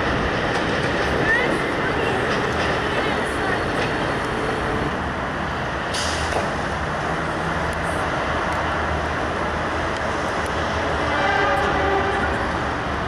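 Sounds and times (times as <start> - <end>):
heavy vehicle rumble: 0.0 - 13.0.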